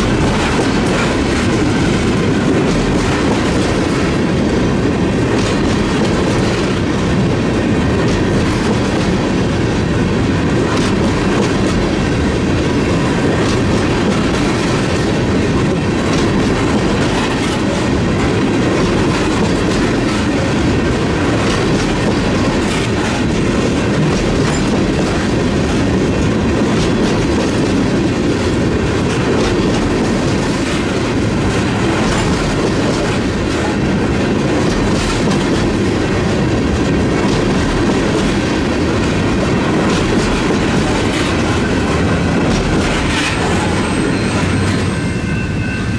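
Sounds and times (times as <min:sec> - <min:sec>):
wheels clacking over rail joints: 0:00.0 - 0:45.1
steel wheels rumbling on rails: 0:00.0 - 0:45.9.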